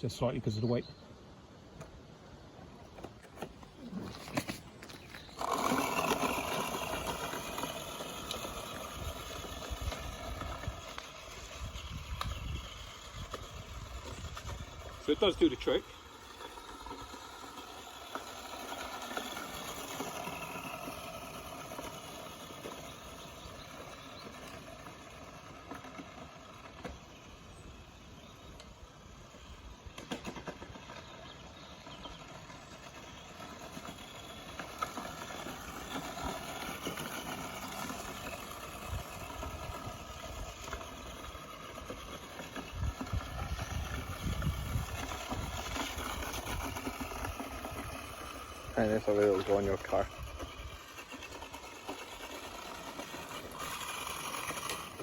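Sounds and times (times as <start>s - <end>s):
tyre and ground noise: 0.0s - 55.0s
toy car electric motor whining: 2.9s - 55.0s.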